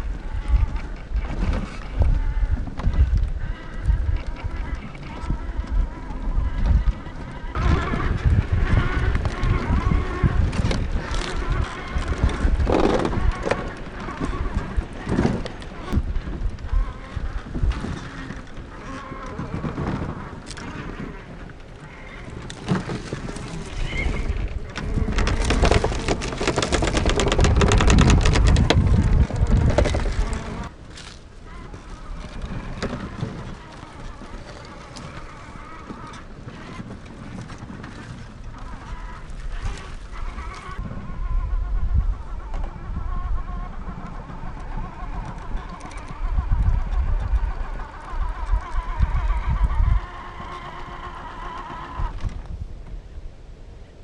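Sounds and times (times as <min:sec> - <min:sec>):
low motor rumble: 0:00.0 - 0:53.3
toy car crackling and clicking: 0:06.4 - 0:40.8, 0:43.1 - 0:52.3.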